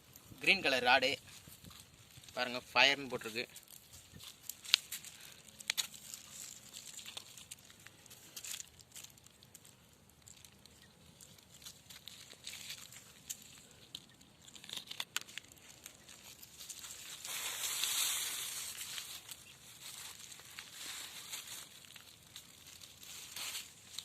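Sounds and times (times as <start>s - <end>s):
rustling handling noise: 0.0s - 24.0s.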